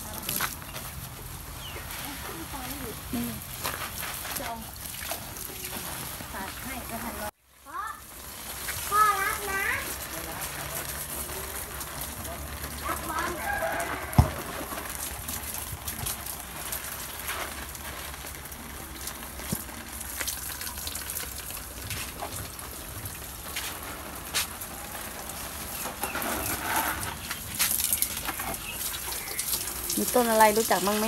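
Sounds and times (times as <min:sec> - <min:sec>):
hose water spraying on plants: 0:00.0 - 0:31.0.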